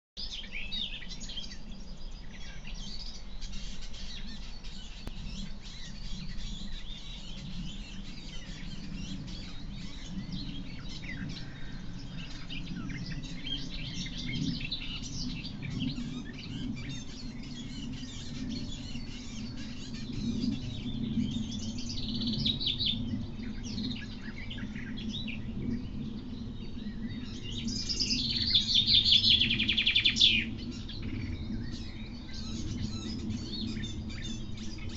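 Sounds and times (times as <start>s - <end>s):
rapid trilled bird song: 0.2s - 34.9s
wild birds singing: 0.2s - 34.9s.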